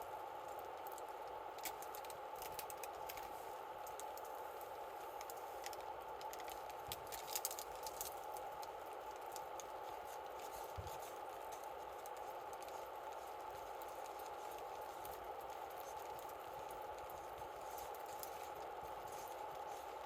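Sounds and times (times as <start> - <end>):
campfire crackling and popping: 0.2 - 20.0.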